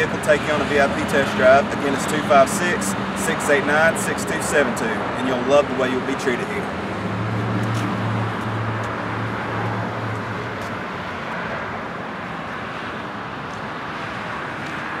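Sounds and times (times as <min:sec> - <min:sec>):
passing vehicles rushing: 0:00.0 - 0:15.0.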